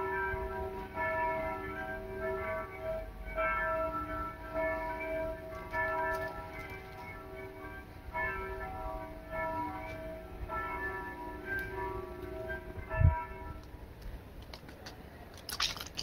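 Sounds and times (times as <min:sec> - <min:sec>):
bells ringing: 0:00.0 - 0:13.8.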